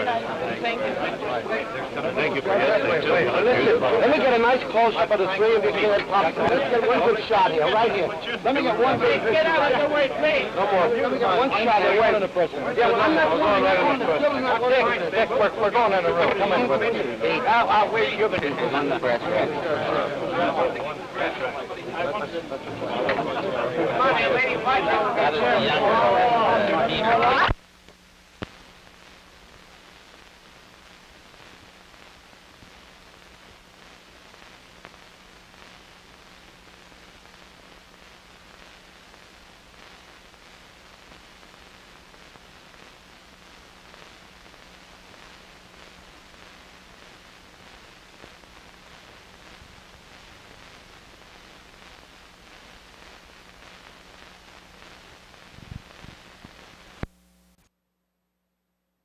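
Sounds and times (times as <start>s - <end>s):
film soundtrack hiss and crackle: 0.0s - 57.7s.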